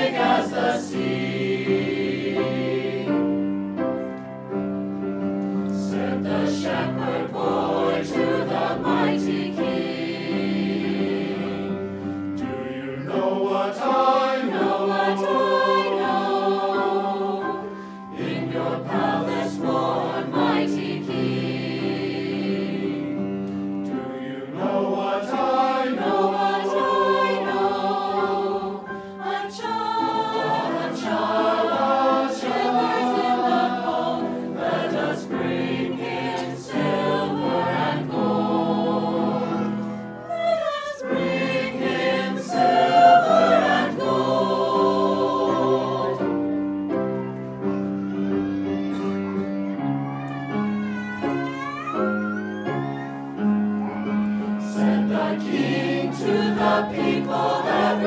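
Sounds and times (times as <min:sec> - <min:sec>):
mixed choir singing: 0:00.0 - 0:04.0, 0:05.7 - 0:47.0, 0:54.2 - 0:58.0.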